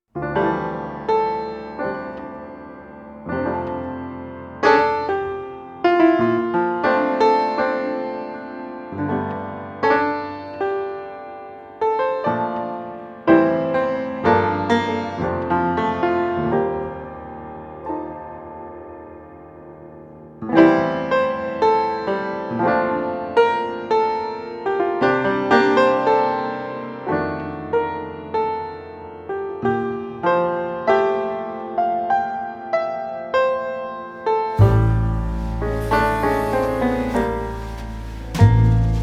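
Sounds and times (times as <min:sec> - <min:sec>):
slow solo piano music: 0:00.2 - 0:21.9, 0:25.8 - 0:39.0.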